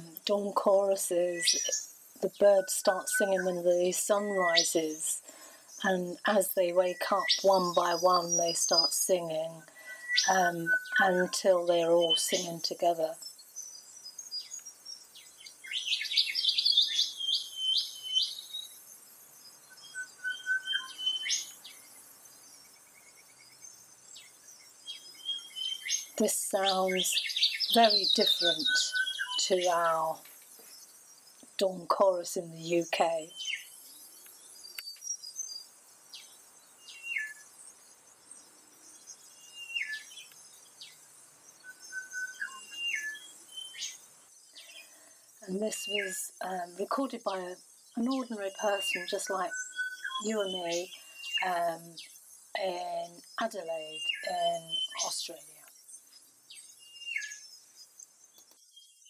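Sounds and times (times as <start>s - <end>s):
birds singing and calling: 0.0s - 59.0s
faint high insect-like hiss: 0.0s - 59.0s.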